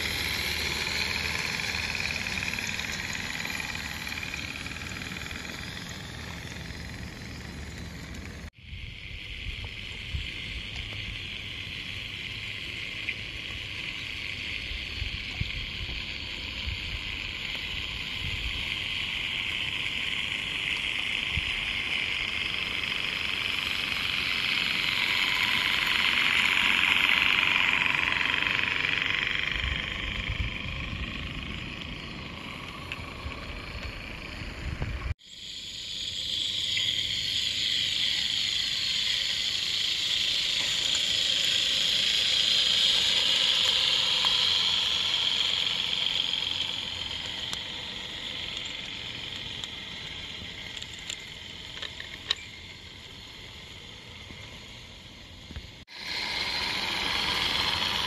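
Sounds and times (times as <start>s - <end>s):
model steam locomotive hissing: 0.0s - 58.0s.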